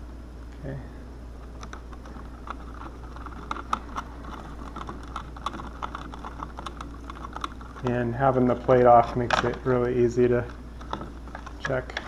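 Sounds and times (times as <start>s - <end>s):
steady low hum: 0.0s - 12.0s
clicks and scrapes of wires: 1.4s - 12.0s.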